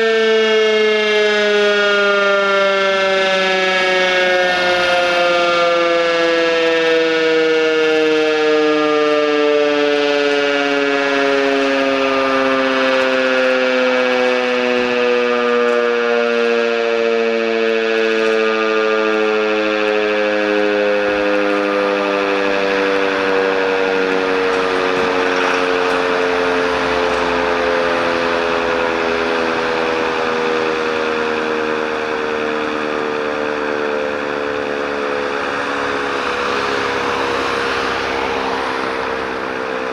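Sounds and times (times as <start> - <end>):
siren sliding down in pitch: 0.0 - 39.9.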